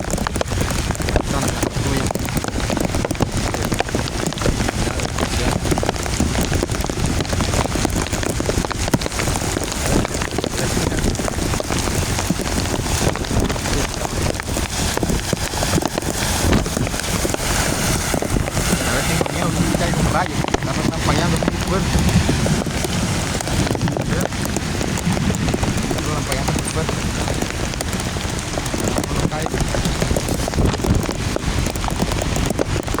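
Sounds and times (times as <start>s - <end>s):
rain falling: 0.0s - 33.0s
raindrops ticking near microphone: 0.0s - 33.0s.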